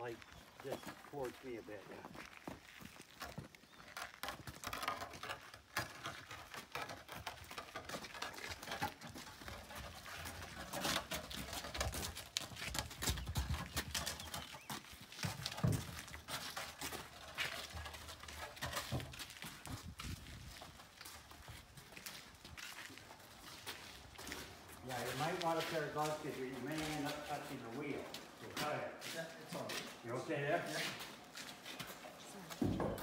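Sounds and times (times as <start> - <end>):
shuffling footsteps: 0.0 - 33.0
wooden wheel rolling over concrete: 2.0 - 33.0.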